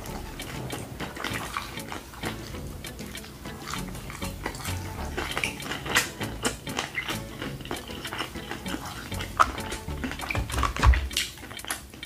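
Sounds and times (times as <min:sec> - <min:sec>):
close chewing with lip-smacking: 0:00.0 - 0:12.0
mouth clicks: 0:00.0 - 0:12.0
quiet background music: 0:00.0 - 0:12.0.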